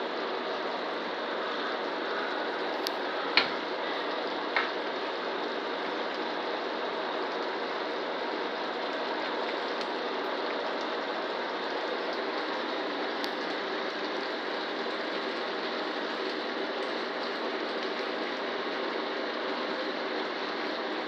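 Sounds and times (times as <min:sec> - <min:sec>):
sauce bubbling and sizzling in skillet: 0:00.0 - 0:21.0.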